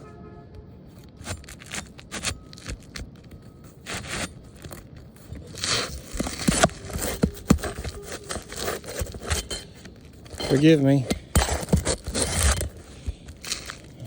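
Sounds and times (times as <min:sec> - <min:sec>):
roof shingles scraping and crackling: 0:00.9 - 0:14.0.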